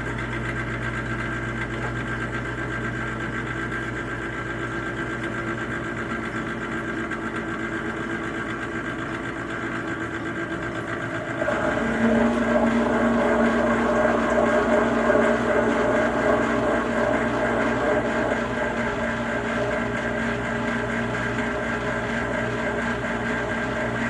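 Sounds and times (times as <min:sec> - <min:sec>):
dishwasher motor hum: 0:00.0 - 0:24.0.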